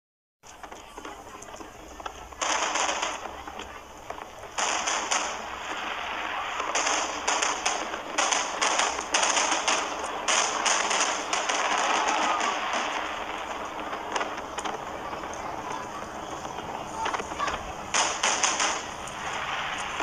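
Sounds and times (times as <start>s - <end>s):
dense rapid crackling: 0.4s - 20.0s
fireworks bursting: 0.4s - 20.0s.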